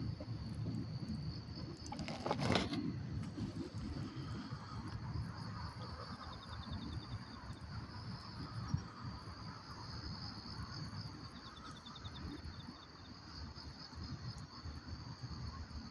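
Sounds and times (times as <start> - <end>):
crickets chirping: 0.0 - 15.9
pulsed insect trills: 0.0 - 15.9.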